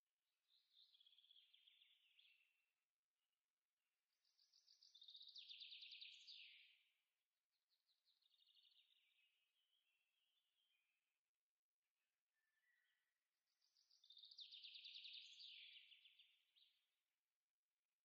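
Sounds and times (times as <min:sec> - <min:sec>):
faint songbird song: 0:00.0 - 0:18.0.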